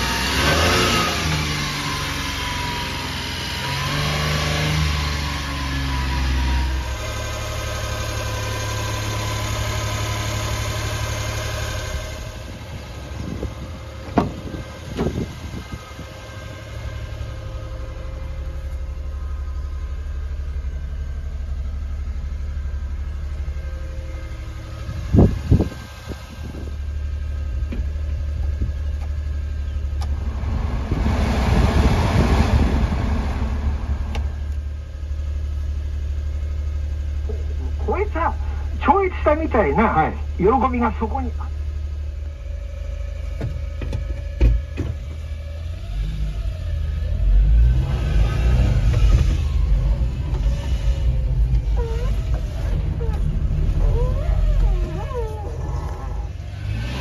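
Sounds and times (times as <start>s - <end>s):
small truck engine idling: 4.9s - 47.6s, 48.5s - 56.8s.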